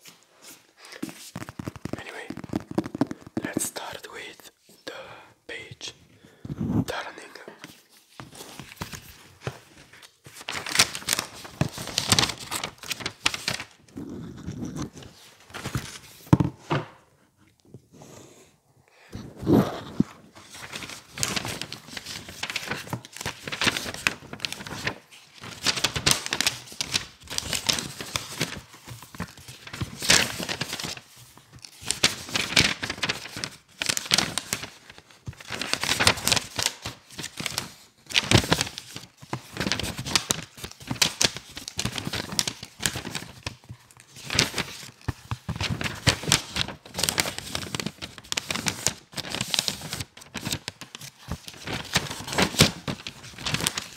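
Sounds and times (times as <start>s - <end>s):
book pages rustling: 0.0s - 4.4s, 6.6s - 17.8s, 19.2s - 53.9s.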